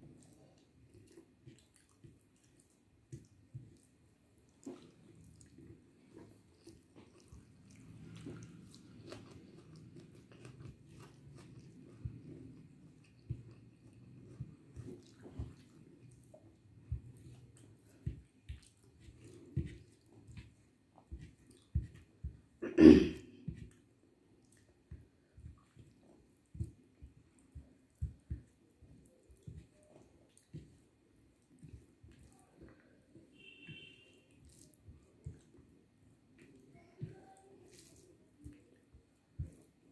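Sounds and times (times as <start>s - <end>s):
close-up chewing: 0.0s - 22.6s, 23.4s - 39.9s
fingers mixing rice on plate: 0.0s - 22.6s, 23.4s - 39.9s
wet squelches of eating by hand: 0.0s - 39.9s.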